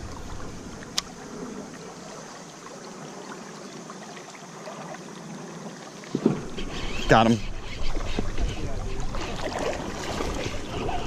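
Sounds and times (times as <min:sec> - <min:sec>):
creek water running over shallows: 0:00.0 - 0:11.0.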